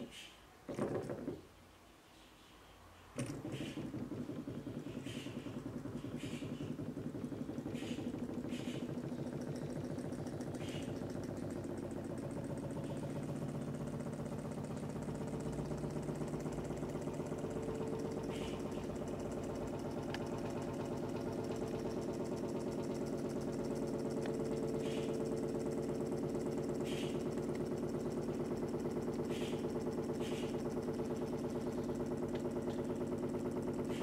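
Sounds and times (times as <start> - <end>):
small engine mechanical rhythm: 3.0 - 34.0.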